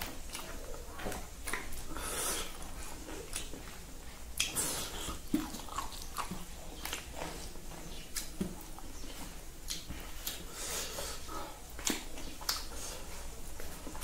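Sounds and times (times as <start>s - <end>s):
chewing with lip smacks: 0.0s - 14.0s.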